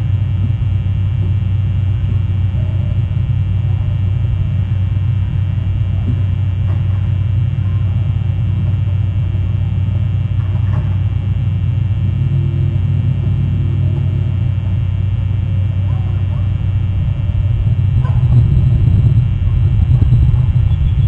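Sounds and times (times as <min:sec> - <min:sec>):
constant hum tones: 0:00.0 - 0:21.0
steady low rumble: 0:00.0 - 0:21.0.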